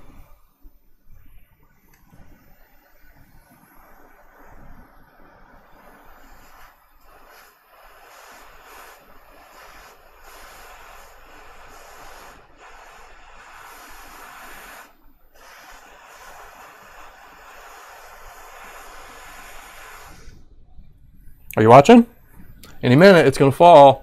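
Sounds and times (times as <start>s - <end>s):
hot air station hissing: 0.0s - 24.0s.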